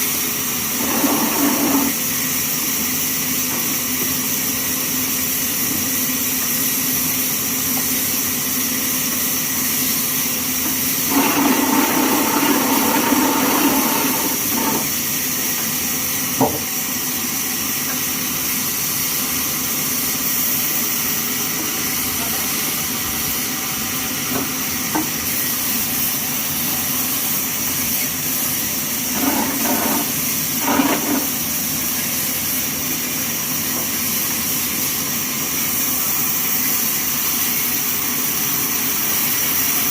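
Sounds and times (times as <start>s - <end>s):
band saw machinery hissing and whining: 0.0s - 39.9s.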